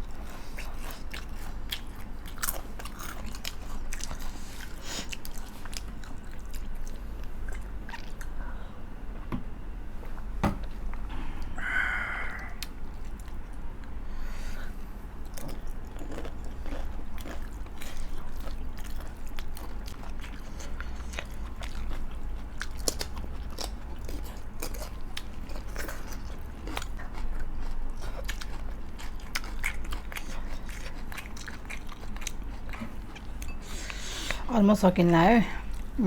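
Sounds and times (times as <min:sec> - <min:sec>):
chewing crunchy food: 0:00.0 - 0:08.4, 0:12.5 - 0:14.0, 0:15.0 - 0:34.5, 0:35.6 - 0:36.0
steady low hum: 0:00.0 - 0:36.0.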